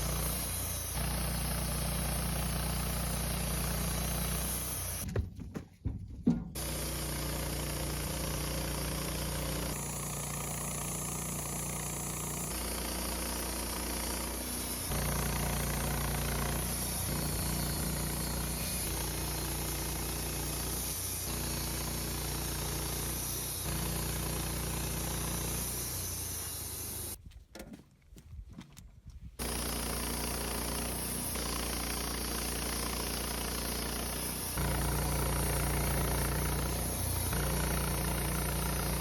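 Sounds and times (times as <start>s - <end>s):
sawmill engine running: 0.0s - 5.1s, 6.5s - 27.2s, 29.4s - 39.0s.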